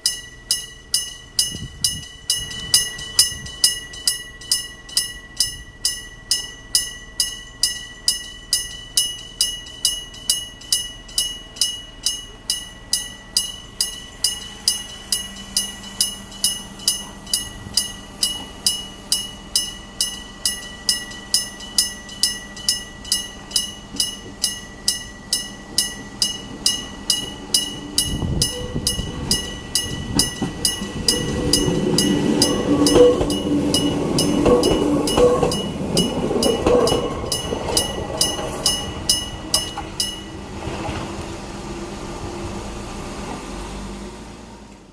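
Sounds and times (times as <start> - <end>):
level crossing bell ringing: 0.0 - 40.4
electric train passing: 0.0 - 44.9.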